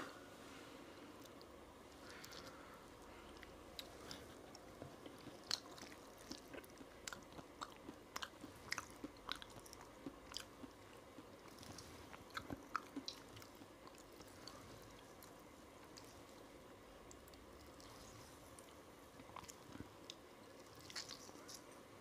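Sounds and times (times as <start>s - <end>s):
mouth chewing food: 1.2s - 21.8s.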